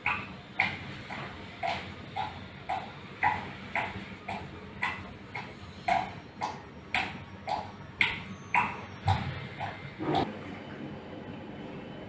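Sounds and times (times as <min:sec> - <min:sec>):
water dripping into bucket: 0:00.0 - 0:09.9.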